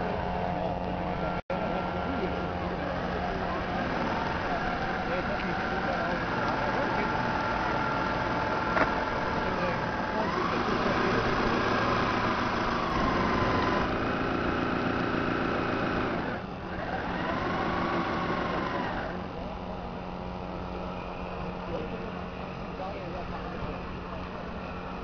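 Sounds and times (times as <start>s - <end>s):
electric motors whining: 0.0s - 25.0s.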